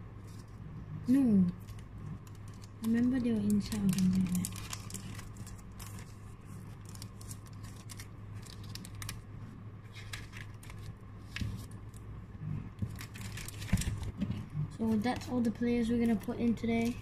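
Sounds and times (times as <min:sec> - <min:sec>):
steady low hum: 0:00.0 - 0:17.0
cards and plastic sleeves rustling: 0:00.2 - 0:12.1, 0:12.7 - 0:17.0.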